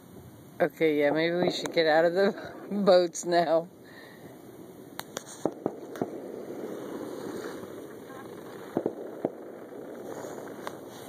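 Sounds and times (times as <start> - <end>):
steady background hiss: 0.0 - 11.0
distant fireworks popping: 0.8 - 11.0.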